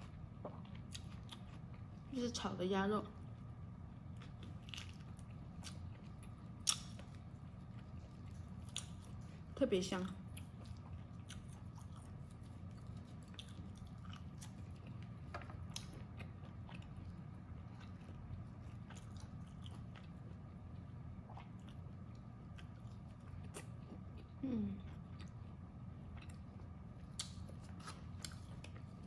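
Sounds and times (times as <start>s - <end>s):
low steady hum: 0.0s - 29.0s
chewing and biting: 0.1s - 2.0s, 4.1s - 29.0s.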